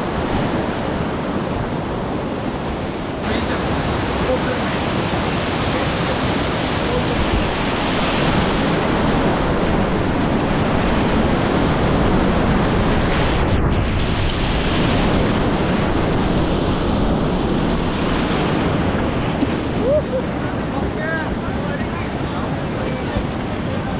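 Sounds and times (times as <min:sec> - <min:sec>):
whitewater rapids rushing: 0:00.0 - 0:23.9
wind buffeting microphone: 0:00.0 - 0:23.9.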